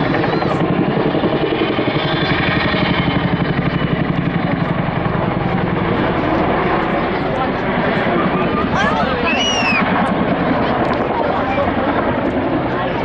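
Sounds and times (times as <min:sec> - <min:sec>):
helicopter rotor beating: 0:00.0 - 0:13.0
turbine engine whine: 0:00.0 - 0:13.0.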